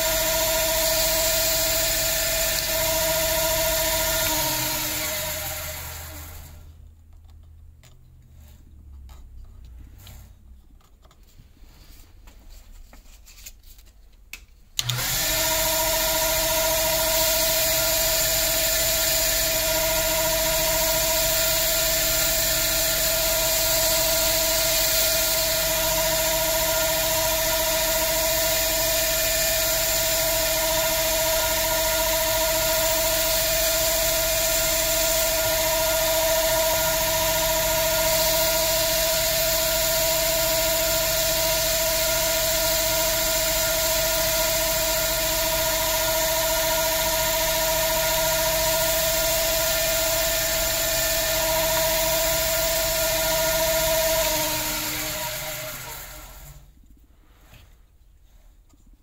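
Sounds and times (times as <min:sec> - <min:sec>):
lathe motor whining: 0:00.0 - 0:06.7, 0:14.8 - 0:56.6.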